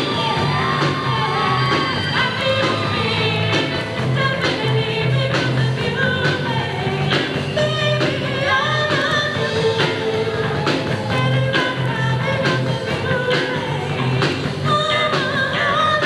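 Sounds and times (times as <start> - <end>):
drums keeping steady beat: 0.0 - 16.0
lead singer: 0.0 - 16.0
rock band playing live: 0.0 - 16.0.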